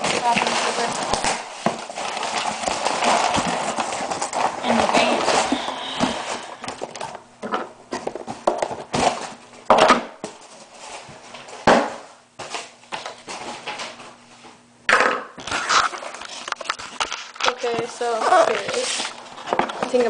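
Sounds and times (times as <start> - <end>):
paper and cardboard rustling: 0.0 - 7.2, 10.2 - 14.5, 15.4 - 20.0.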